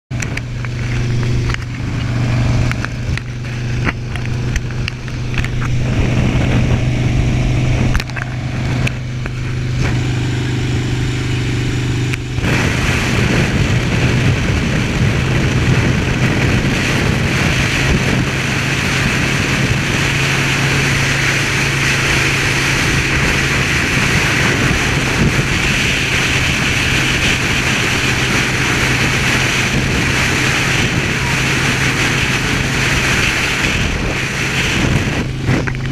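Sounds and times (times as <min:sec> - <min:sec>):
motorcycle engine humming: 0:00.1 - 0:35.9
wind rush on microphone: 0:00.1 - 0:35.9.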